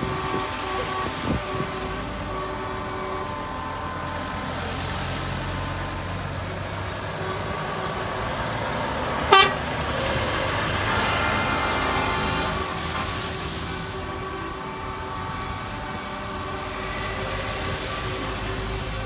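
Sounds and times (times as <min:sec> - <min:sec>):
lorries driving past: 0:00.0 - 0:19.0
loud truck horn blast: 0:00.0 - 0:19.0
steady horn tones: 0:00.0 - 0:19.0.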